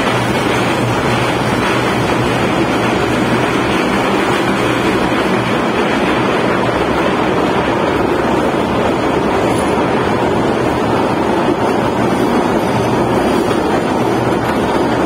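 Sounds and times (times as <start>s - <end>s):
train rumbling in a tunnel: 0.0s - 15.0s.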